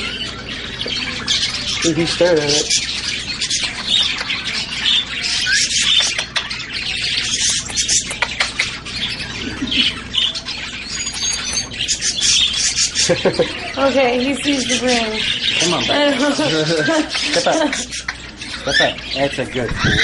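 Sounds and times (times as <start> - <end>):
parrot squawking and chattering: 0.0 - 20.0.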